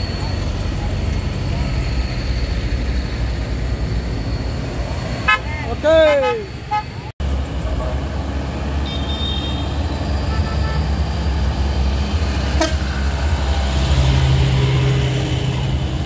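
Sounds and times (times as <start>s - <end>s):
car engines: 0.0s - 16.0s
diesel truck engine climbing hill: 0.0s - 16.0s.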